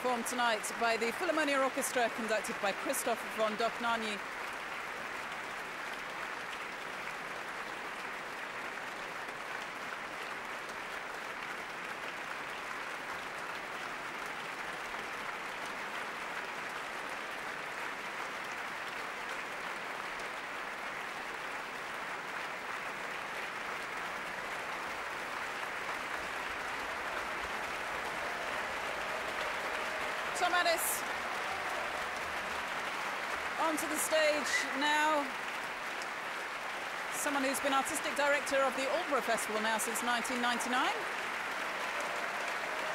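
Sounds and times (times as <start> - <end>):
audience applauding: 0.0 - 42.9.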